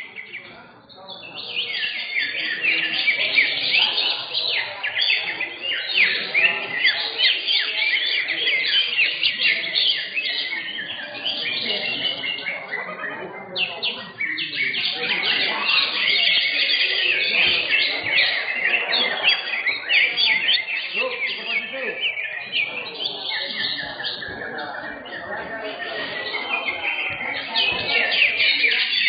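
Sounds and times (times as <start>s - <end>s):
birds singing rapid chirps: 0.0s - 29.0s.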